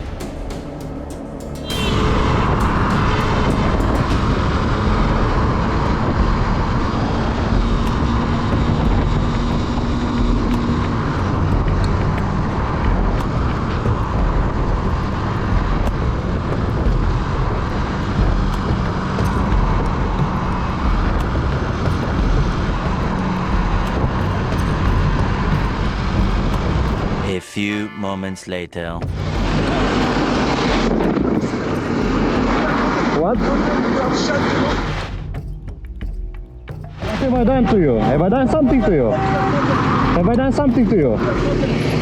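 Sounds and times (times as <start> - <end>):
motorcycle engine running: 0.0 - 27.2, 29.0 - 42.0.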